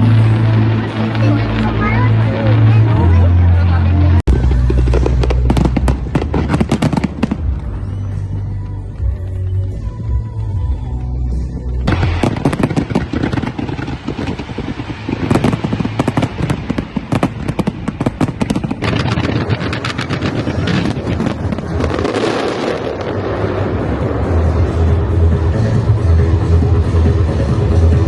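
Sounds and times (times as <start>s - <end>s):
fireworks banging and crackling: 0.0s - 28.0s
low music bass: 0.0s - 28.0s.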